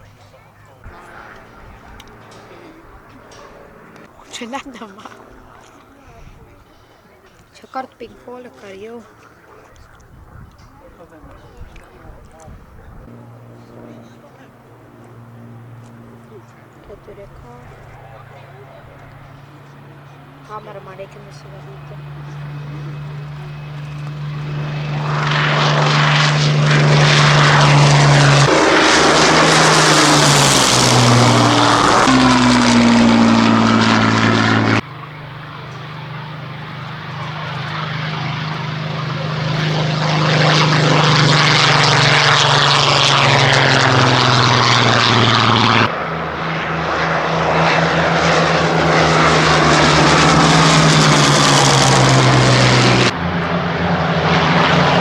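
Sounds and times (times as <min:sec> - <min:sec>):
propeller plane engines droning: 0:00.0 - 0:55.0.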